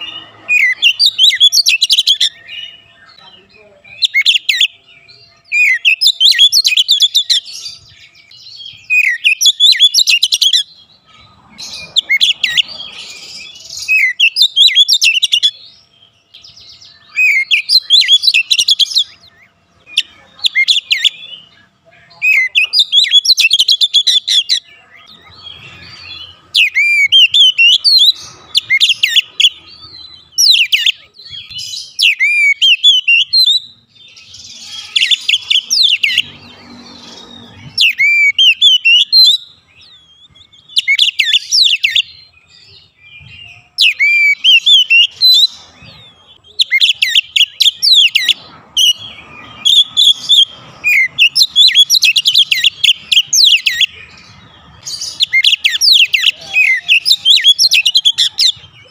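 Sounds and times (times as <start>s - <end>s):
bird singing whistled phrases: 0.0s - 3.3s, 3.9s - 10.7s, 11.9s - 15.6s, 16.4s - 21.5s, 22.2s - 25.4s, 30.3s - 36.3s, 37.2s - 54.1s, 54.9s - 58.9s.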